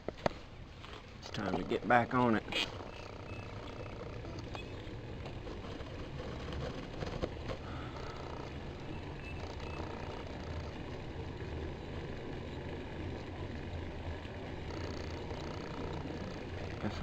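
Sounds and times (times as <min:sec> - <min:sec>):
bike clicks and rattles: 0:00.0 - 0:17.0
bike tyres rolling on dirt: 0:00.0 - 0:17.0.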